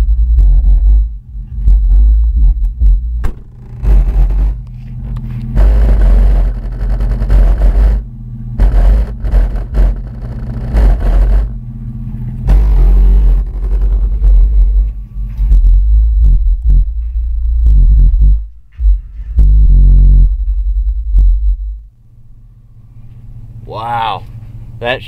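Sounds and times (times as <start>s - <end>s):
heavy subwoofer bass music: 0.0s - 22.4s.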